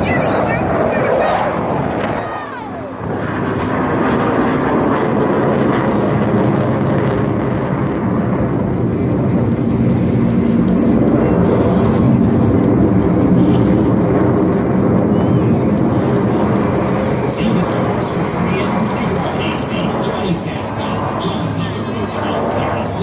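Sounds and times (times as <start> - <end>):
aircraft engine flying past: 0.0 - 23.0.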